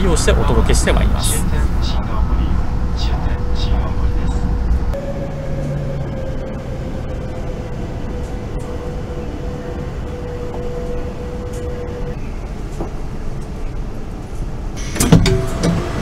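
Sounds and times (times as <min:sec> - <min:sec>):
deep train rumble: 0:00.0 - 0:16.0.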